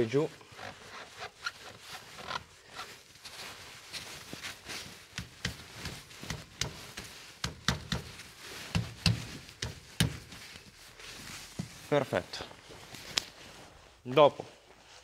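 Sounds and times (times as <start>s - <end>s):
hands patting air filter: 1.4s - 13.4s.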